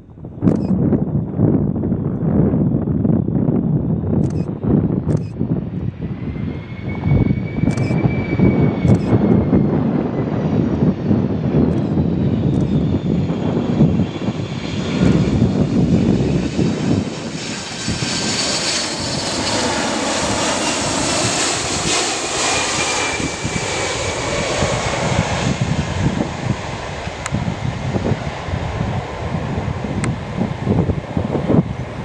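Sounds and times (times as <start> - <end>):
jet engines passing: 2.6 - 32.0.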